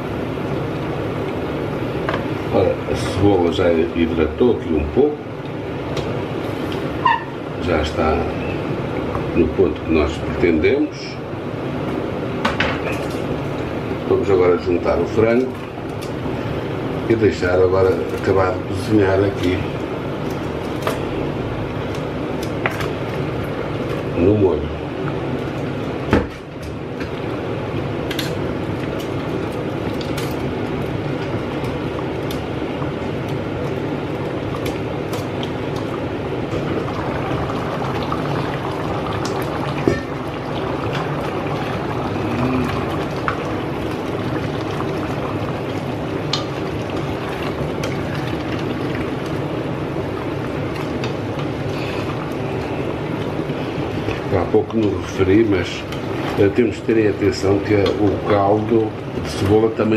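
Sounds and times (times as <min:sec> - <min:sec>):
stew bubbling in a pot: 0:00.0 - 0:59.9.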